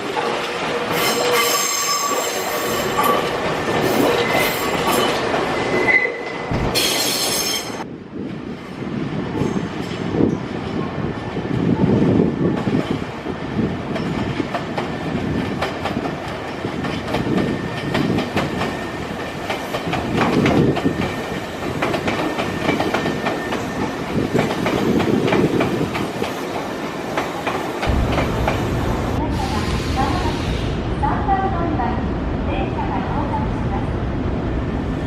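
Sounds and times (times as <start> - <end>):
train rumble: 6.4 - 35.0.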